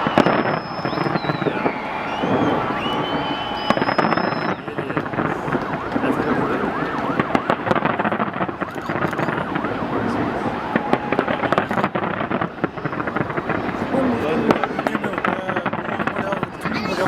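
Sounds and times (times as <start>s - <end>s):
crowd din: 0.0s - 17.0s
firework whistles: 0.0s - 17.0s
fireworks bangs and crackles: 0.0s - 17.0s.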